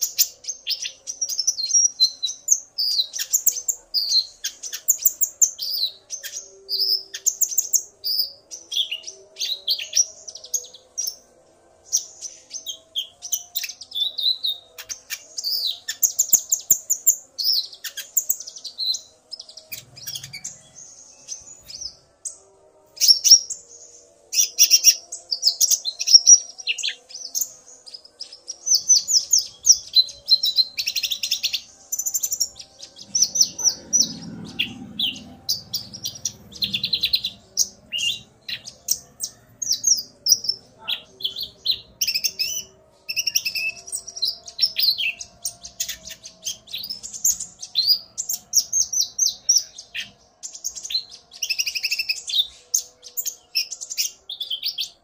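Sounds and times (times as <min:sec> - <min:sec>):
sunbirds twittering and trilling: 0:00.0 - 0:55.0.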